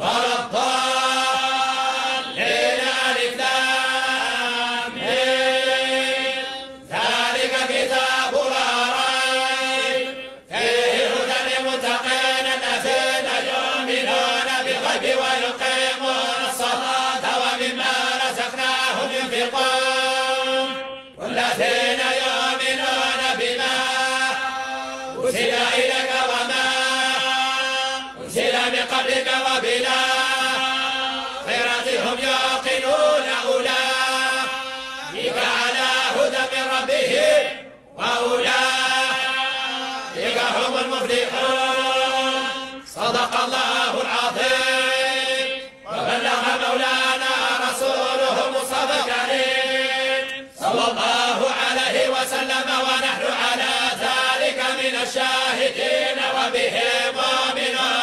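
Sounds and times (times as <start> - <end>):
person chanting melodically: 0.0 - 58.0.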